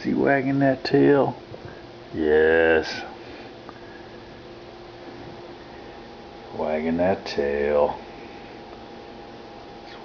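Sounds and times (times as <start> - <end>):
faint even hum: 0.0 - 10.0.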